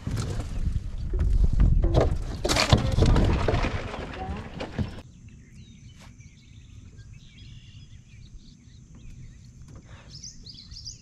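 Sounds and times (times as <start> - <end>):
songbirds chirping and trilling: 0.1 - 11.0.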